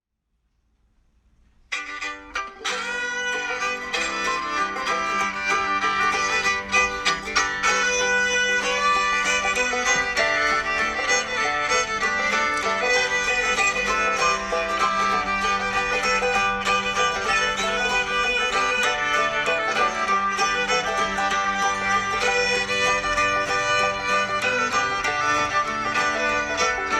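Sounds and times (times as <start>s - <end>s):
fiddle music over plucked strings: 1.7s - 26.9s.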